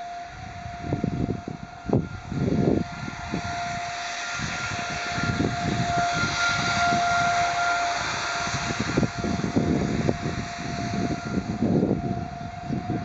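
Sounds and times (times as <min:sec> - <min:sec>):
tornado warning siren: 0:00.0 - 0:13.0
wind rumbling on microphone: 0:00.0 - 0:13.0.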